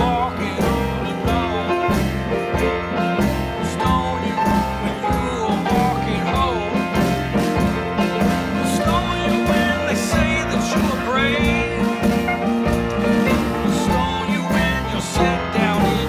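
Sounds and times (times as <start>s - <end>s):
sliding lead line: 0.0s - 16.0s
steady beat: 0.0s - 16.0s.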